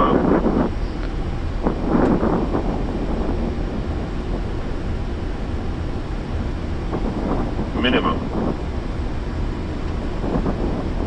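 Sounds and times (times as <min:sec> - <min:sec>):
cockpit airflow and engine rumble: 0:00.0 - 0:11.0.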